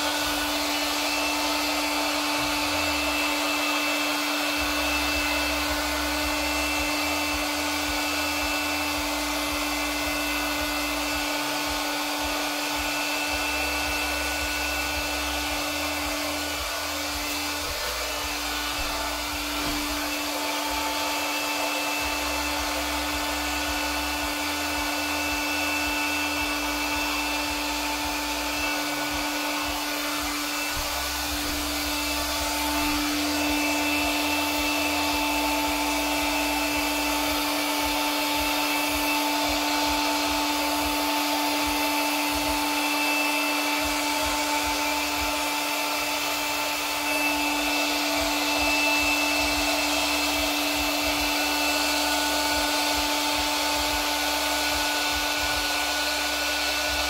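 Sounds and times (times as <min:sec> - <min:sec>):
electric blower whining: 0:00.0 - 0:57.0.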